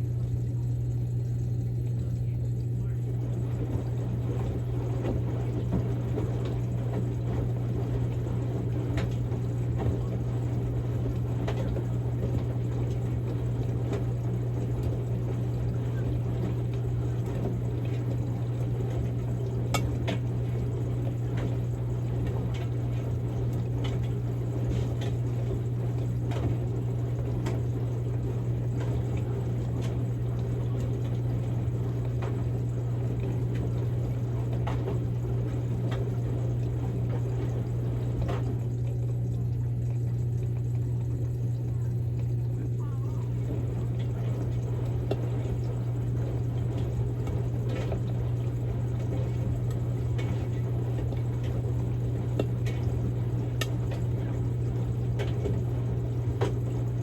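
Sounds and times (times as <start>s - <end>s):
washing machine motor hum: 0.0s - 57.0s
water sloshing in washing machine drum: 0.0s - 57.0s.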